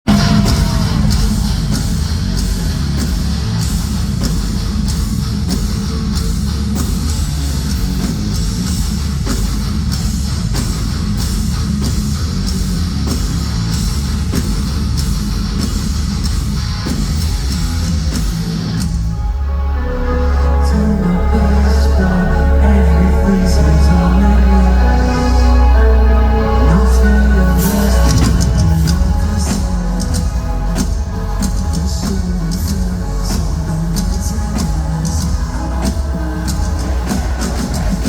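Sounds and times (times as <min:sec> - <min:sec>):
heavy metal band playing live: 0:00.0 - 0:38.0.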